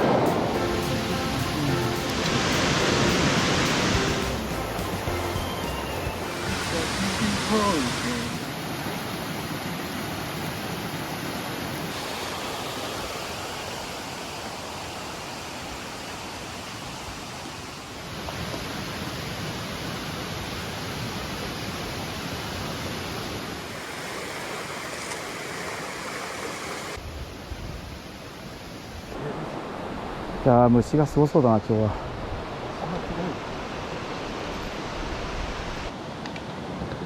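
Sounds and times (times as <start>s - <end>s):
stream rushing: 0.0s - 37.0s.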